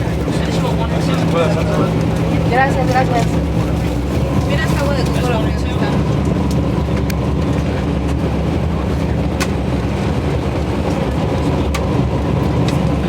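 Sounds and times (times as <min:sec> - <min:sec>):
bus engine and road drone: 0:00.0 - 0:13.0.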